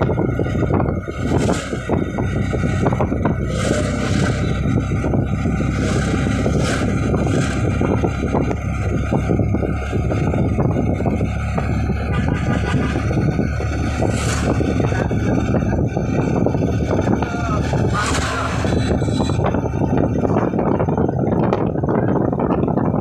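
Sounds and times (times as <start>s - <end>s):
vehicle engine and road noise: 0.0s - 23.0s
wind on microphone: 0.0s - 23.0s.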